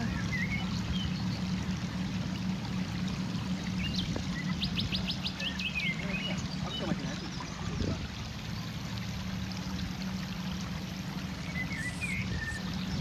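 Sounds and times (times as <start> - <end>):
birds chirping: 0.0 - 13.0
low steady hum: 0.0 - 13.0
seawater washing: 0.0 - 13.0.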